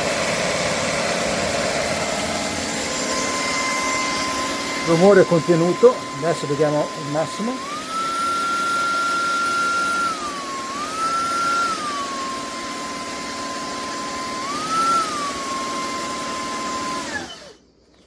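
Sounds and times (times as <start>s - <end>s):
stick vacuum motor whine: 0.0s - 18.0s.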